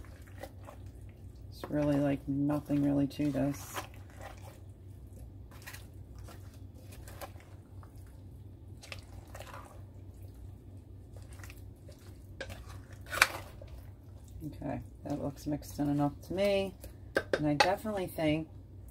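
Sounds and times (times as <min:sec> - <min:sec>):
spoon stirring thick mixture: 0:00.0 - 0:18.3.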